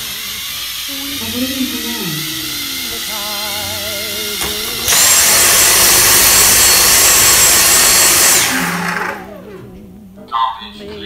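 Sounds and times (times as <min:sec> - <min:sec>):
cordless vacuum motor whine: 0:00.0 - 0:10.3.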